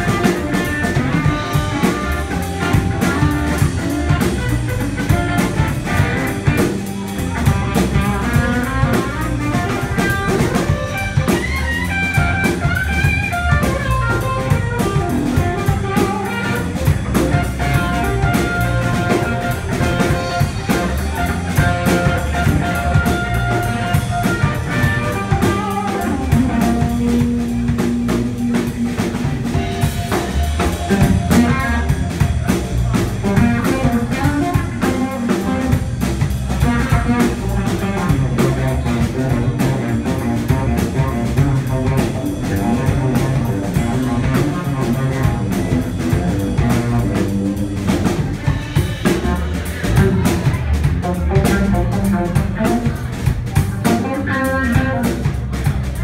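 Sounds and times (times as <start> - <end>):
blues band playing: 0.0 - 56.0.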